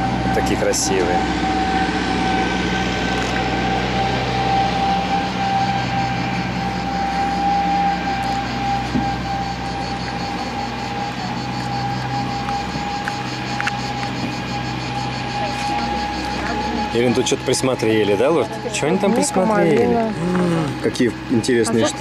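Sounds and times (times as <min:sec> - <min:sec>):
cicadas shrilling: 0:00.4 - 0:19.8.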